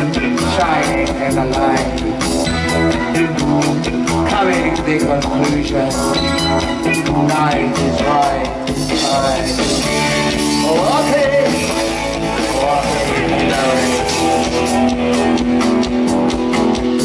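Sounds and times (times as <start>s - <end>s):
live band music with guitar: 0.0s - 17.0s.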